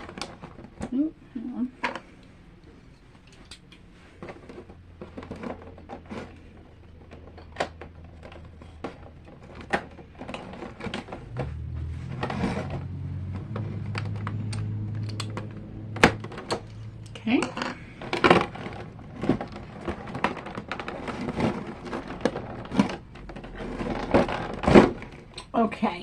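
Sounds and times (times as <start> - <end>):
low steady hum: 0.0 - 26.0
packaging being handled and unpacked: 4.0 - 25.5.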